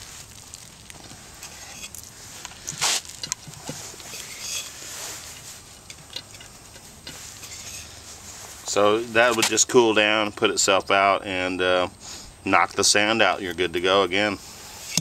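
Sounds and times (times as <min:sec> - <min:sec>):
sand scraping and pattering: 0:00.0 - 0:15.0.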